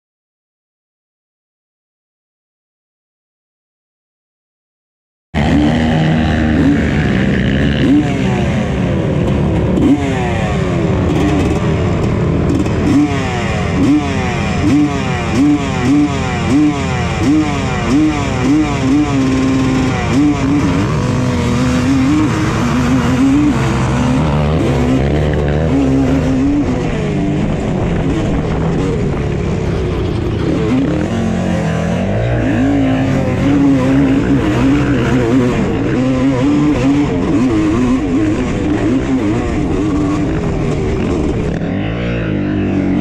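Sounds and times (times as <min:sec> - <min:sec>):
quad engine revving: 0:05.4 - 0:43.0.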